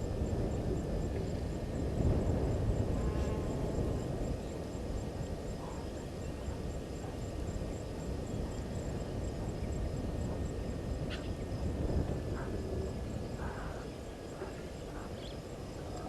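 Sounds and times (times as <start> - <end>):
insect chirping: 0.0 - 16.0
steady low noise: 0.0 - 16.0.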